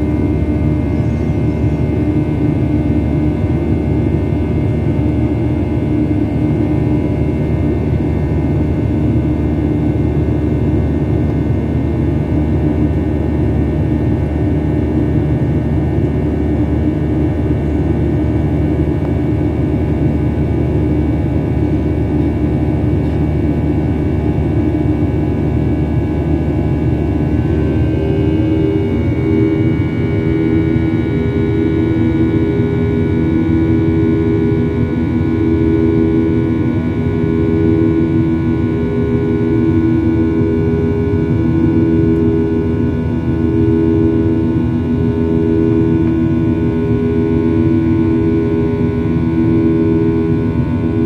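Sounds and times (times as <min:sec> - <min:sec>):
jet engines droning: 0:00.0 - 0:51.0.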